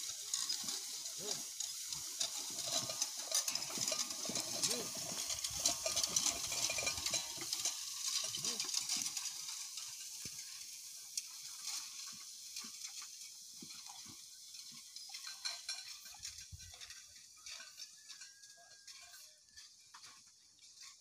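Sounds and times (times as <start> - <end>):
dry hay crackling and rustling: 0.0 - 21.0
rake tines clicking: 0.0 - 21.0.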